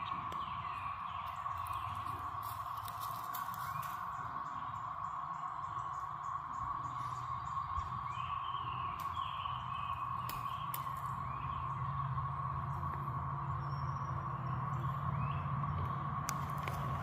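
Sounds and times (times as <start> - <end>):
cicadas droning: 0.0 - 17.0
low rumble: 0.0 - 17.0.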